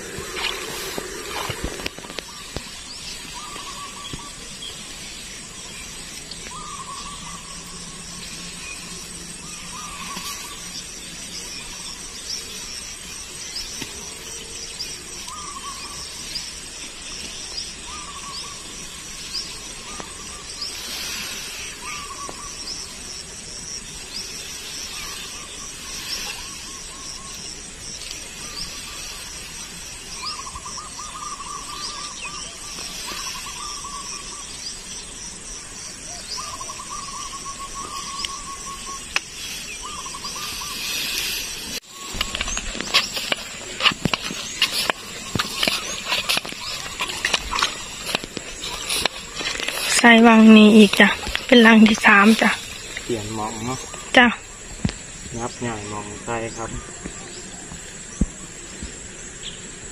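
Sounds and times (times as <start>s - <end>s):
birds chirping: 0.0s - 59.9s
insects calling: 0.0s - 59.9s
rustling through tall grass: 0.0s - 59.9s
steady hiss: 0.0s - 59.9s.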